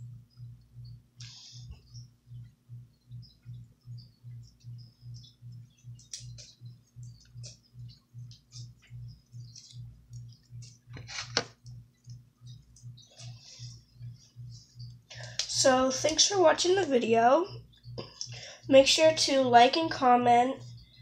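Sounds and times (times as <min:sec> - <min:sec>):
low even pulse: 0:00.0 - 0:10.9, 0:11.6 - 0:21.0.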